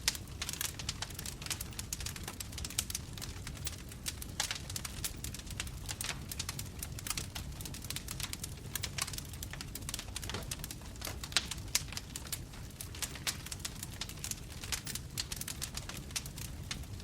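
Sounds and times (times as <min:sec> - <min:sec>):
bonfire crackling: 0:00.0 - 0:17.0
low rumble of flames: 0:00.0 - 0:17.0.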